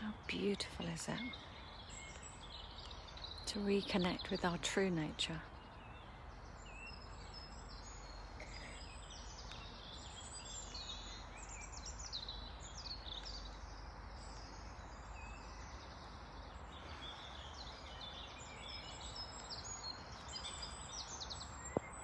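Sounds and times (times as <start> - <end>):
songbirds chirping and trilling: 0.0 - 22.0.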